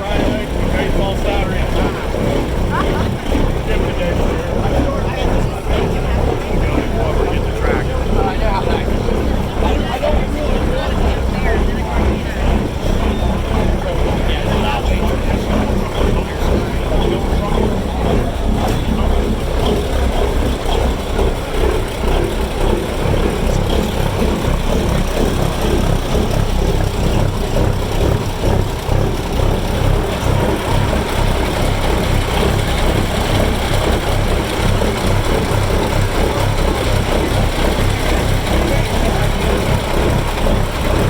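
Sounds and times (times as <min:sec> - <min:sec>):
diesel engines idling: 0:00.0 - 0:41.0.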